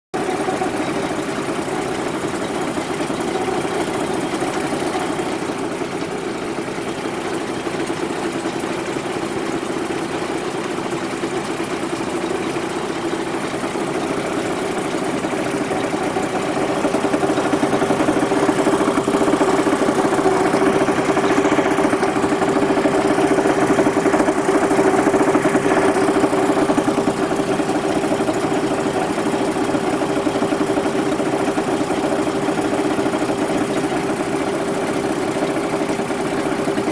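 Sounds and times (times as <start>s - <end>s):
car engine idling: 0.2s - 36.9s.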